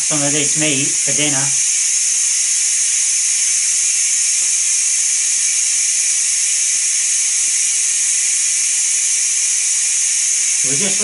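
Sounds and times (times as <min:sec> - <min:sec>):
steam venting hiss: 0:00.0 - 0:11.0.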